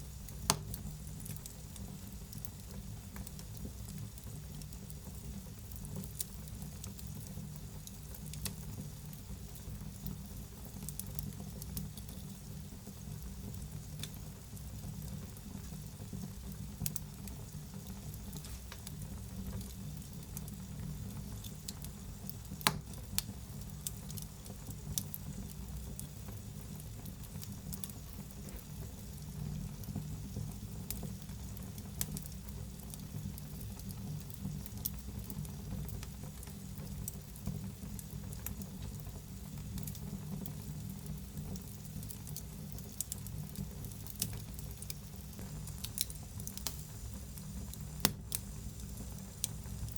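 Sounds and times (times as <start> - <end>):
low rumble of flame: 0.0 - 49.9
wood fire crackling and popping: 0.0 - 49.9.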